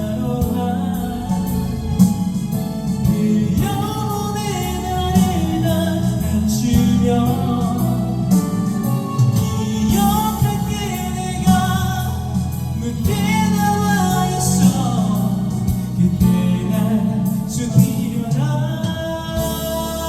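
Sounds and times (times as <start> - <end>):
instrumental accompaniment: 0.0 - 20.0
person singing a ballad: 0.0 - 20.0.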